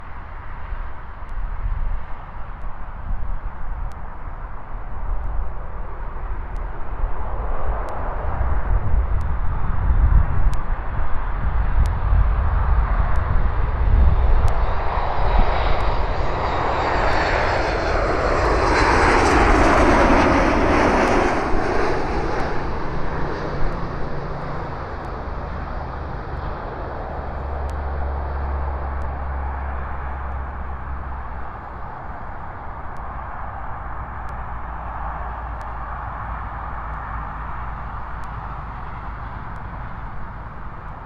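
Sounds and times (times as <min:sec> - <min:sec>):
jet airliner passing overhead: 0:00.0 - 0:41.0.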